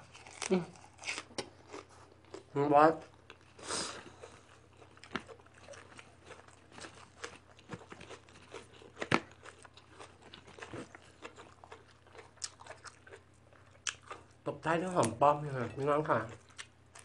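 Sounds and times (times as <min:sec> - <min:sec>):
chewing food with crunches: 0:00.0 - 0:17.0.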